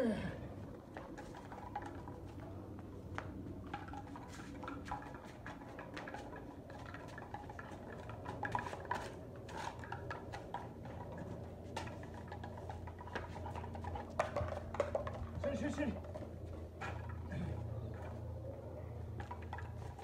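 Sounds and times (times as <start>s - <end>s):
dog paws and claws: 0.8s - 20.0s.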